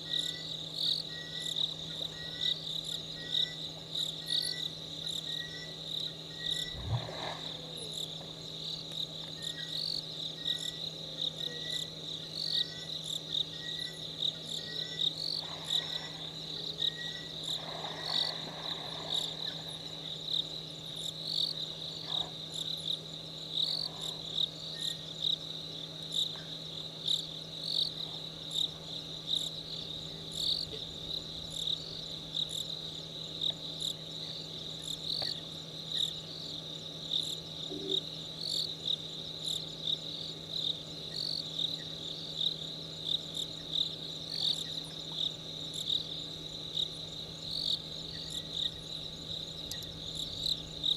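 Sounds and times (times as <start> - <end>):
crickets trilling: 0.0 - 50.9
faint insect chirping: 0.0 - 50.9.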